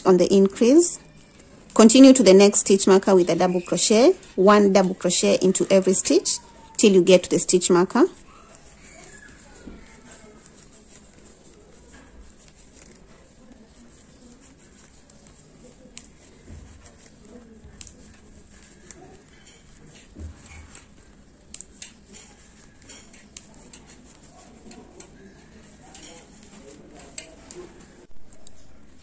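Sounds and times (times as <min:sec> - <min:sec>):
yarn rustling: 0:00.0 - 0:28.1.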